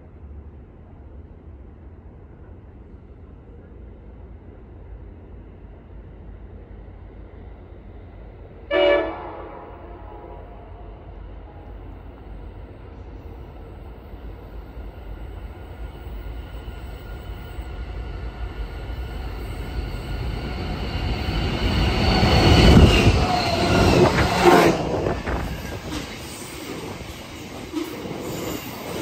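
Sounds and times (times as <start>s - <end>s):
freight train passing: 0.0s - 29.0s.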